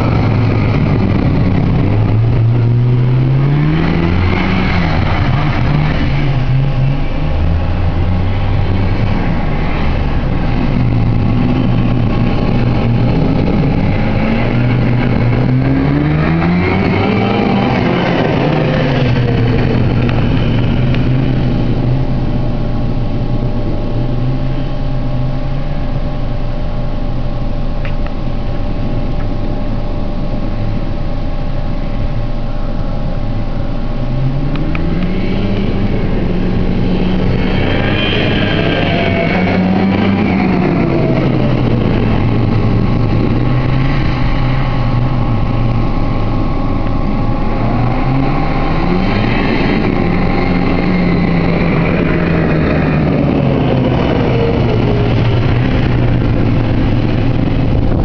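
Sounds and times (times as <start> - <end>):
engine idling: 0.0 - 16.2, 16.8 - 58.0
snowmobile engine revving: 0.0 - 25.2, 32.6 - 58.0.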